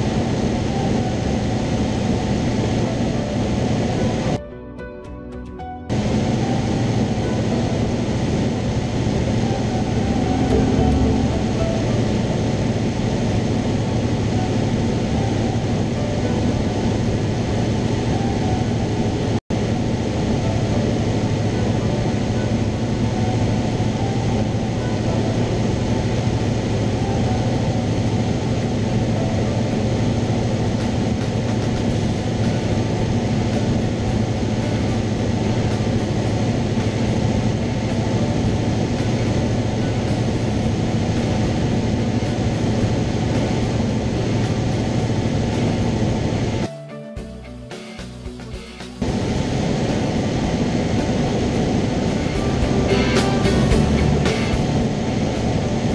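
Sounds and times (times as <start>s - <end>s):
aircraft engine drone in cabin: 0.0s - 4.4s, 5.9s - 55.9s
airflow hiss: 0.0s - 4.4s, 5.9s - 55.9s.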